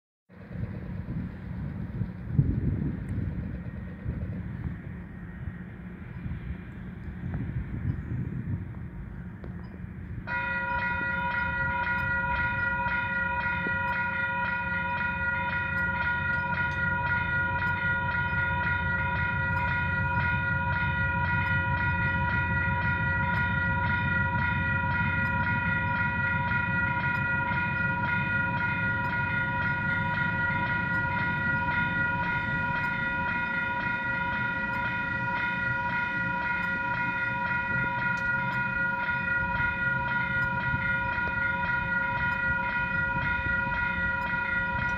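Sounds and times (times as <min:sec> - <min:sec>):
freight train rumbling and clattering: 0:00.3 - 0:44.9
level crossing warning bells: 0:00.3 - 0:44.9.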